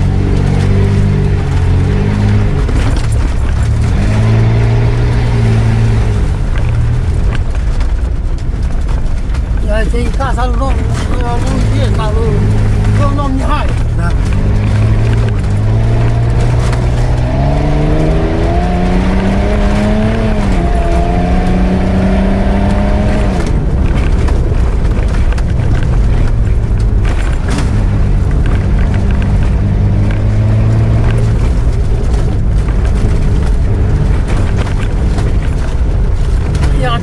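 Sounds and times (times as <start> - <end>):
engine pulling hard: 0.0 - 37.0
tyres rumbling on rough ground: 0.0 - 37.0.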